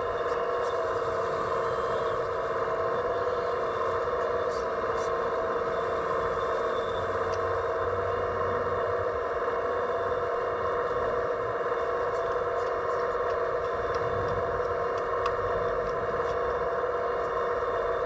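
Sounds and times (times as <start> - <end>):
electric motor whining hum: 0.0 - 18.0.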